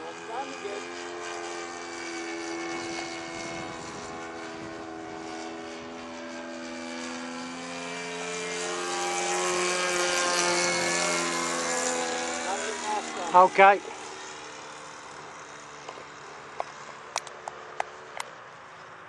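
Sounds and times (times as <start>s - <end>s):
model airplane motor droning: 0.0s - 19.0s.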